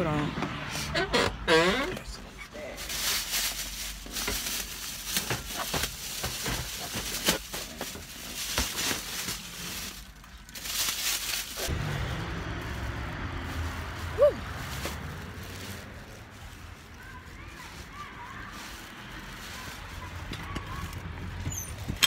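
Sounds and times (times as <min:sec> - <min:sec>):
plastic bags rustling: 0:02.0 - 0:22.0.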